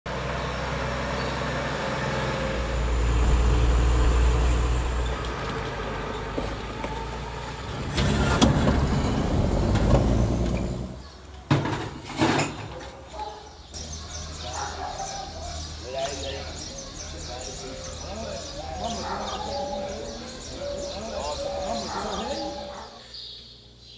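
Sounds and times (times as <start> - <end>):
truck engine rumbling: 0.1 - 23.0.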